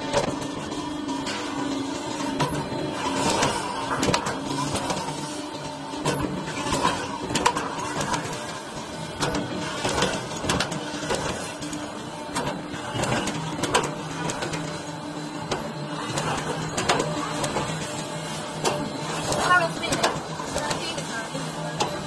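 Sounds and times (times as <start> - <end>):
machine humming: 0.0 - 22.0.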